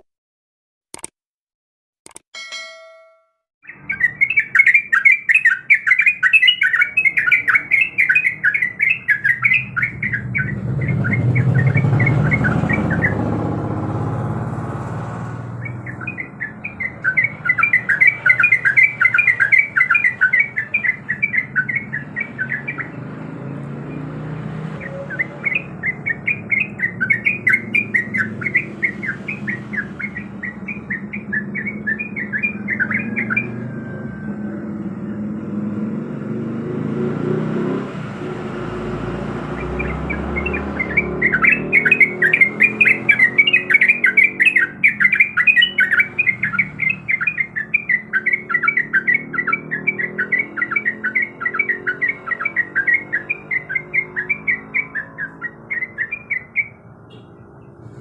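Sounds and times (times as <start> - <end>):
bird chattering song: 3.6 - 13.4, 15.6 - 34.3, 38.6 - 58.0.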